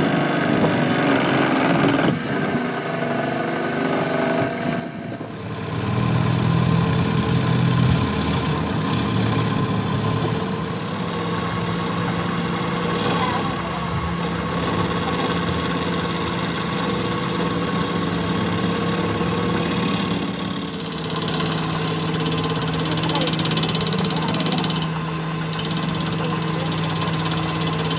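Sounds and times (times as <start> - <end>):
motor humming: 0.0 - 27.9.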